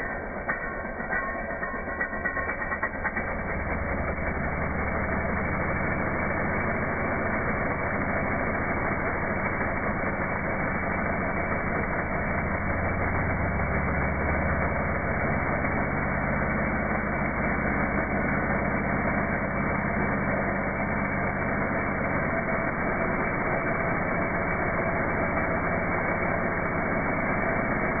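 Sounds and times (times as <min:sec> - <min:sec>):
slowed chainsaw deep drone: 0:00.0 - 0:28.0.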